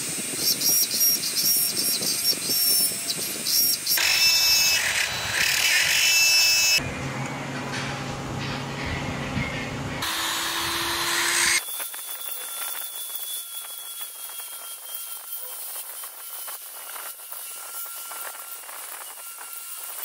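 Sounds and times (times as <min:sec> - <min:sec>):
rotary tool grinding wood: 0:00.0 - 0:06.8, 0:10.0 - 0:20.0.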